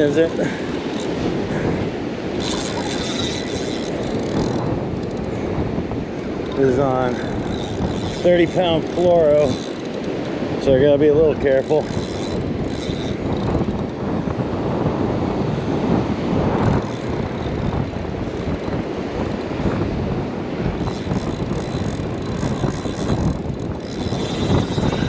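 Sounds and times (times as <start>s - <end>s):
fishing reel drag ticking: 0.0s - 5.4s, 6.1s - 14.0s, 16.6s - 19.7s, 20.8s - 25.0s
wind buffeting microphone: 0.0s - 25.0s.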